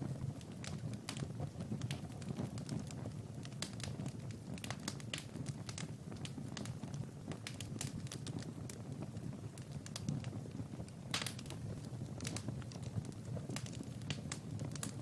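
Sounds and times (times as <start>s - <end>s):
rush of flames: 0.0s - 15.0s
wood fire crackling: 0.0s - 15.0s.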